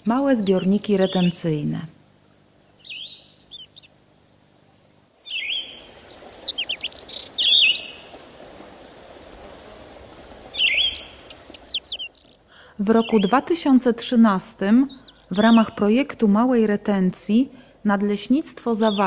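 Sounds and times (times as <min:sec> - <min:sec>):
birds singing: 0:00.0 - 0:01.7, 0:02.5 - 0:16.7, 0:18.6 - 0:19.0
steady high hiss: 0:00.0 - 0:19.0.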